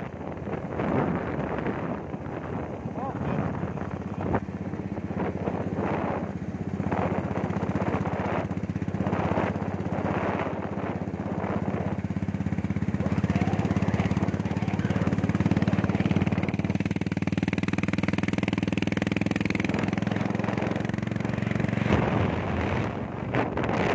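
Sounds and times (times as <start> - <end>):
motorcycle engine running: 0.0 - 23.9
wind and road noise: 0.0 - 23.9.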